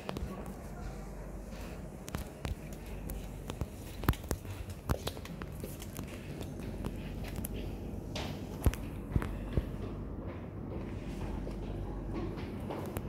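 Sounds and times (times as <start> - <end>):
footsteps: 0.0 - 13.0
steady low hum: 0.0 - 13.0.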